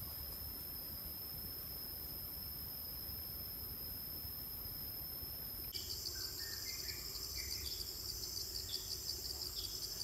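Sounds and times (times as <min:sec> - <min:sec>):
forest insects droning: 0:00.0 - 0:10.0.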